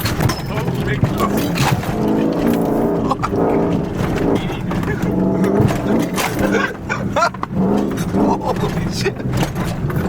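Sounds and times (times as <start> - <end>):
vehicle engine revving: 0.0 - 10.0.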